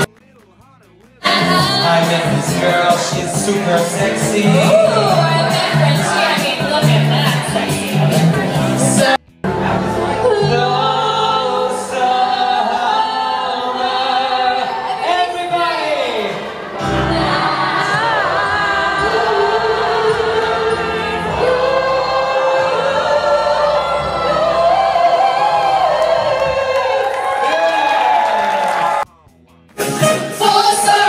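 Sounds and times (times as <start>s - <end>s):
musical backing: 0.0s - 31.0s
people singing into microphones: 1.2s - 27.6s, 29.8s - 31.0s.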